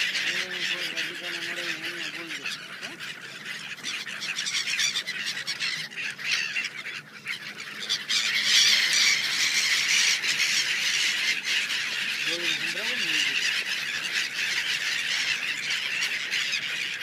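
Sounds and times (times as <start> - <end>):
flock of gulls calling: 0.0 - 17.0.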